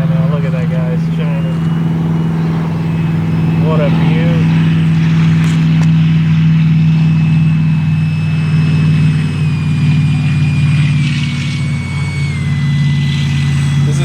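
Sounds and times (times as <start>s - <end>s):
electric jet fan whining: 0.0s - 14.0s
steady low hum: 0.0s - 14.0s.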